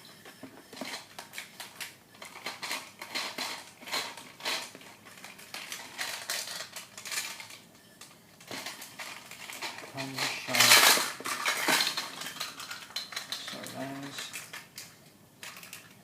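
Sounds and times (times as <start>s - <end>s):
plastic toy clicks and clatter: 0.8s - 7.6s, 8.4s - 16.0s.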